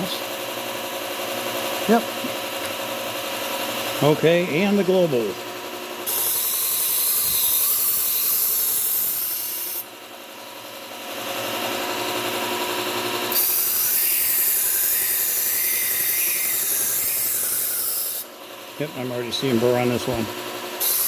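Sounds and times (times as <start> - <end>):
knife grinding on belt sander: 0.0 - 9.9, 11.0 - 21.0.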